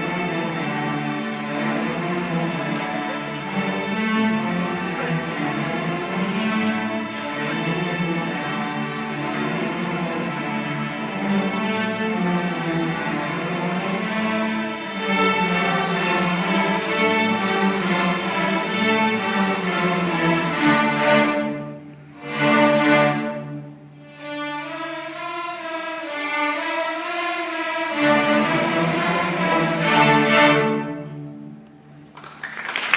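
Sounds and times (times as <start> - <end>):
string orchestra sustained chords: 0.0 - 32.2.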